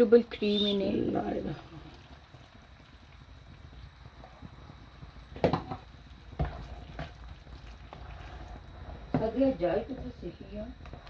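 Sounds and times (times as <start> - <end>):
gravy cooking in pan: 0.0 - 11.0.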